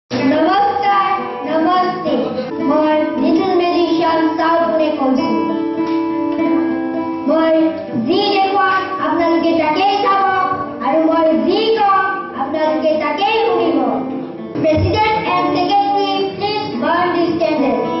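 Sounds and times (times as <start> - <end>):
plucked guitar: 0.1 - 18.0.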